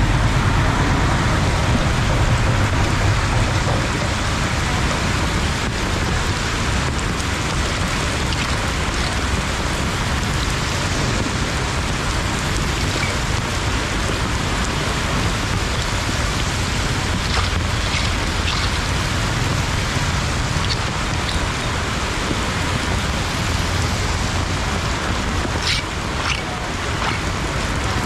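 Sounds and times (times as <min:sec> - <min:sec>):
rain and floodwater rushing: 0:00.0 - 0:28.0.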